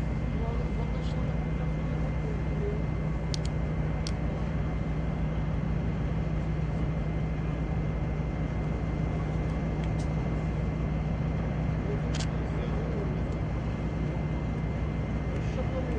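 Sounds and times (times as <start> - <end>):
engine drone with high whine: 0.0 - 15.9.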